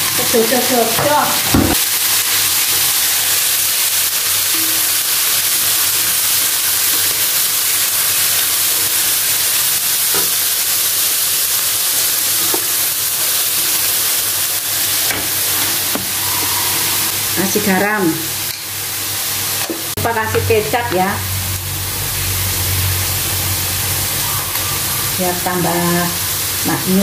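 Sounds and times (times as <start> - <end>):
food sizzling in a wok: 0.0 - 27.0.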